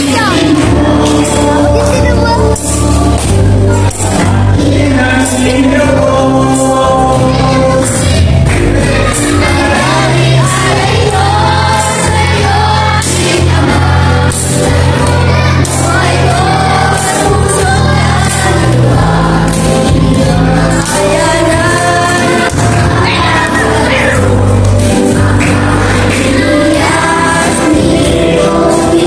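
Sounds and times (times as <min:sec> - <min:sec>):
worship song with band and singing: 0:00.0 - 0:29.0.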